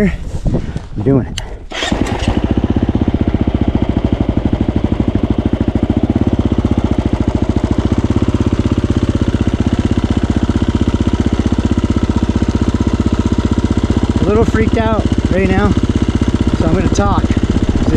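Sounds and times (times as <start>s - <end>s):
dirt bike engine idling: 0.0s - 17.9s.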